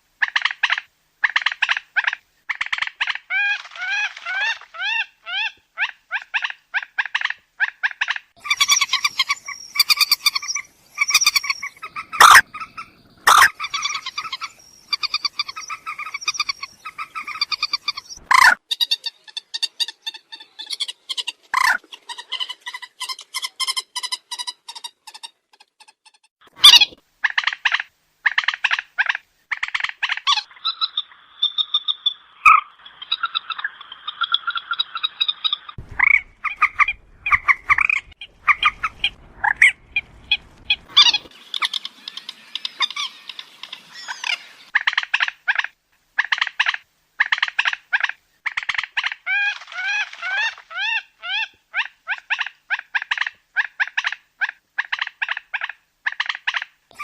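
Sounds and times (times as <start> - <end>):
moorhen calling: 0.2 - 25.2, 26.6 - 57.0.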